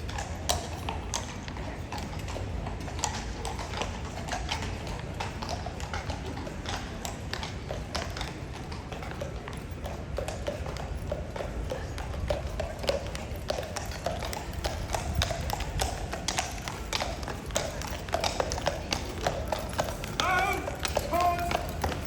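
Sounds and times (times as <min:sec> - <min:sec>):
horse hooves clopping: 0:00.0 - 0:22.0
low city rumble: 0:00.0 - 0:22.0.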